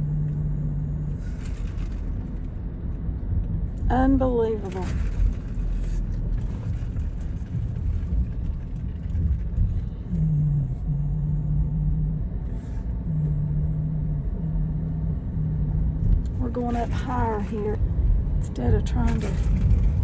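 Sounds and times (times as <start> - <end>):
car engine and road rumble: 0.0 - 20.0
low hum: 0.0 - 20.0.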